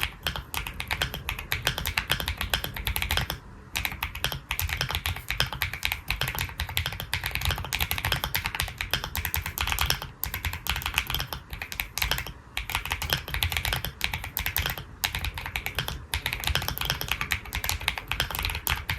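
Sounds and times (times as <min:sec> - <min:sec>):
mechanical keyboard typing: 0:00.0 - 0:18.9.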